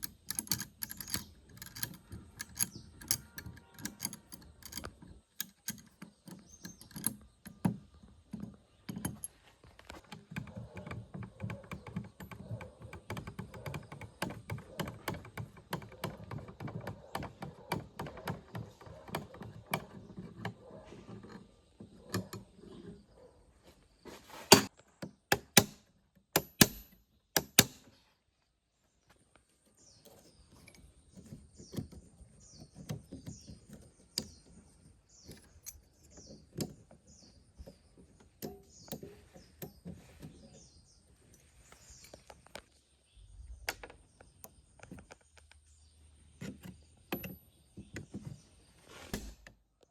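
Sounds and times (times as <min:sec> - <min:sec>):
tools clicking and scraping on metal: 0:00.0 - 0:23.1, 0:24.4 - 0:27.8, 0:30.0 - 0:42.7, 0:46.4 - 0:48.1.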